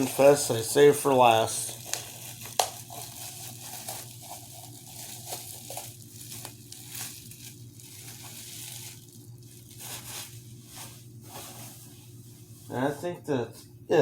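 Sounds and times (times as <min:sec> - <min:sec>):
packaging crinkling and tearing: 0:00.0 - 0:11.9
faint steady hum: 0:00.0 - 0:14.0.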